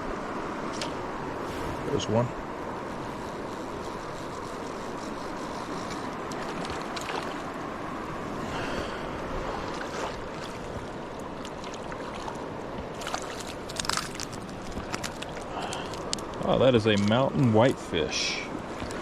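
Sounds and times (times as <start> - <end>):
river water flowing: 0.0 - 19.0.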